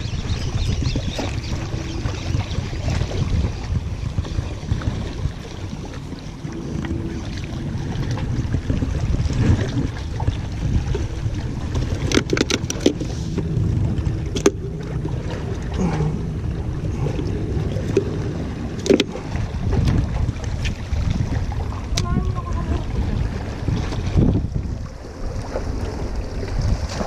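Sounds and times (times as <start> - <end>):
sea waves: 0.0 - 27.0
wind: 0.0 - 27.0.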